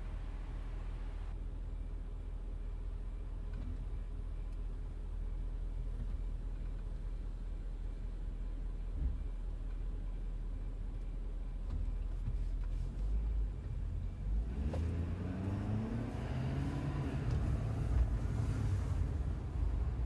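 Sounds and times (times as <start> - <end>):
truck engine rumble inside cab: 0.0 - 20.0.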